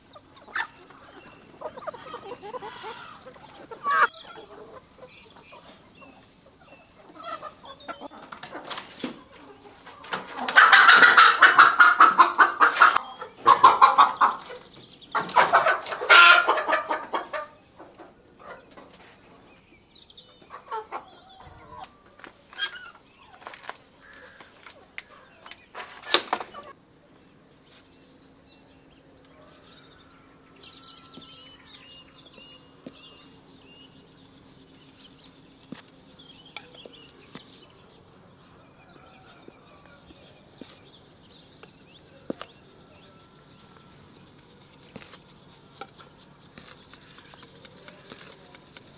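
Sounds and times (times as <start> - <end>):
chickens clucking: 0.0 - 27.0, 31.2 - 48.9.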